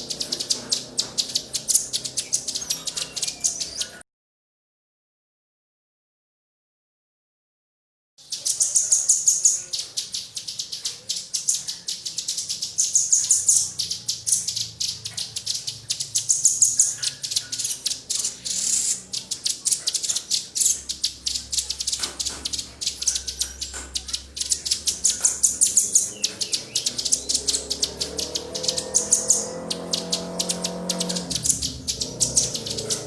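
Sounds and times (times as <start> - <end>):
small songbirds chirping: 0.0 - 4.0, 8.2 - 33.0.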